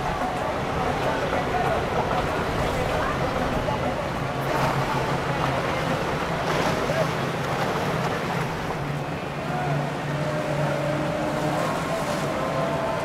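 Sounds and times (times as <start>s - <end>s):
boat engine droning: 0.0s - 13.0s
faint voices: 0.0s - 13.0s
water noise: 0.0s - 13.0s
wind: 0.0s - 13.0s.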